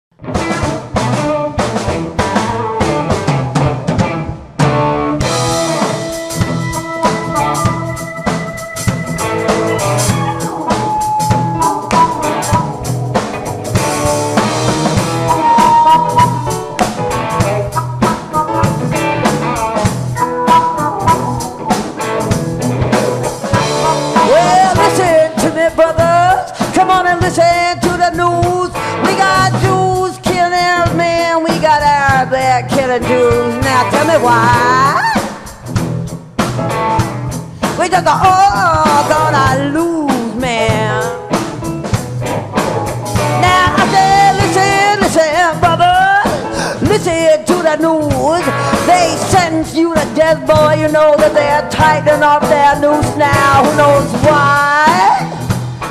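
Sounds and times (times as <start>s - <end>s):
bass guitar: 0.1s - 55.9s
guitar: 0.1s - 55.9s
drum kit beat: 0.2s - 55.9s
keyboard: 2.9s - 31.3s, 32.1s - 55.9s.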